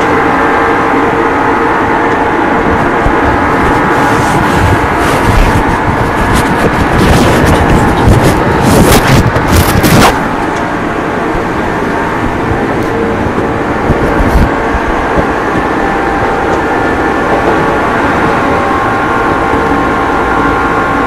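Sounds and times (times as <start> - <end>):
faint whine: 0.0 - 21.0
rushing noise: 0.0 - 21.0
train wheels rumbling on rail: 0.0 - 21.0.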